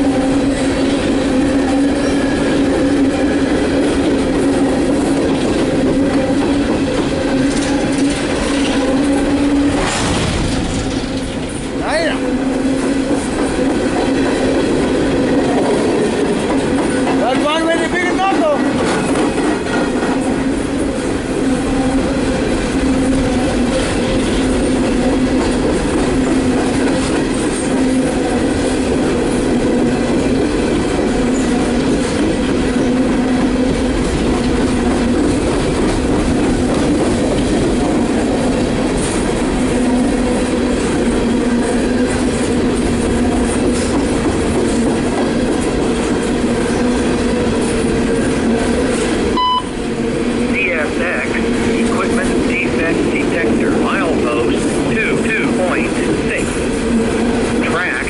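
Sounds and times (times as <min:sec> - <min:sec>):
train cars rumbling past on rails: 0:00.0 - 0:58.0
wheels humming on track: 0:00.0 - 0:58.0.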